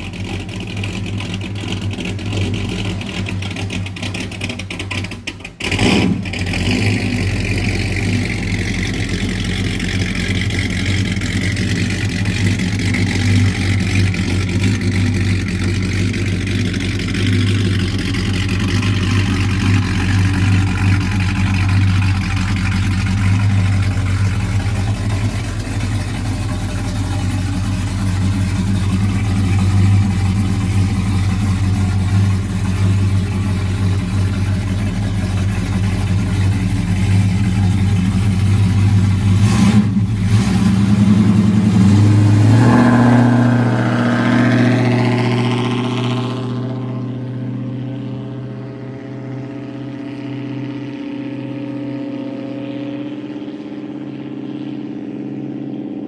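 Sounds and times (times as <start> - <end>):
truck engine idling and revving: 0.0 - 56.0.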